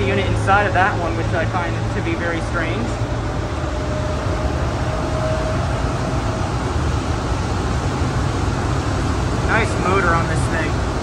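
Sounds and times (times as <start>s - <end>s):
faint motor whine: 0.0s - 11.0s
train rumbling in tunnel: 0.0s - 11.0s.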